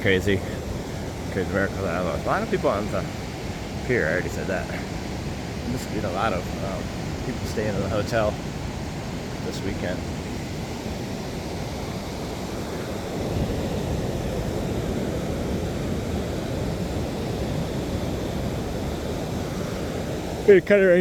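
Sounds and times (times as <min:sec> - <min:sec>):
wind on microphone: 0:00.0 - 0:20.6
ocean surf on beach: 0:00.0 - 0:21.0.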